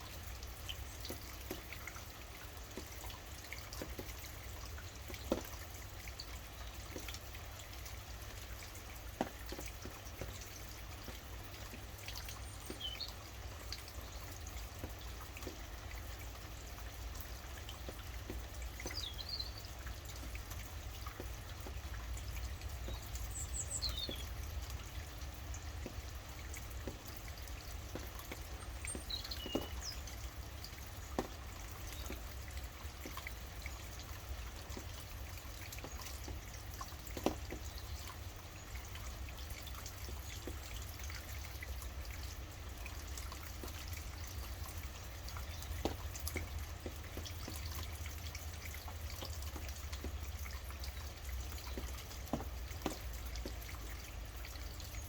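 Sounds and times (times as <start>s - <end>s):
steady rain: 0.0s - 55.0s
water drips: 0.0s - 55.0s.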